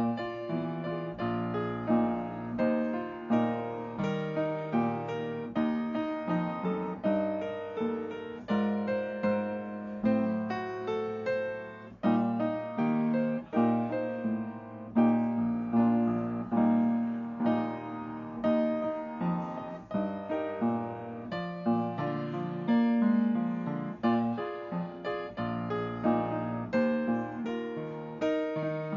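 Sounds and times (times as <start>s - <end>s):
piano playing chords: 0.0s - 28.9s.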